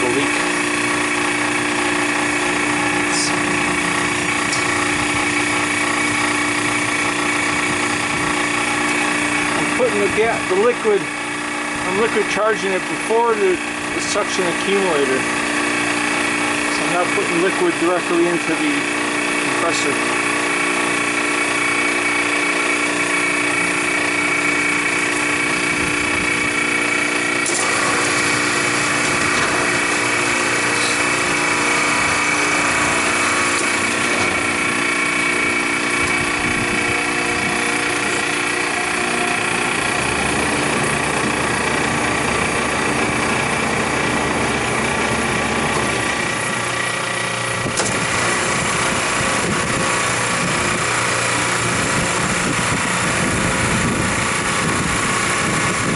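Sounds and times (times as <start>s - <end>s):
freezer condensing unit humming: 0.0s - 55.9s.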